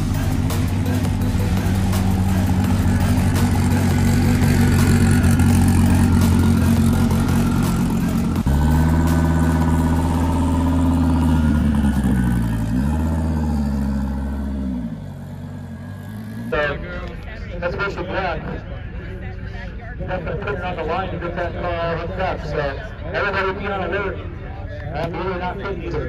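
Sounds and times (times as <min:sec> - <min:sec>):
car engine idling and rolling off: 0:00.0 - 0:22.2.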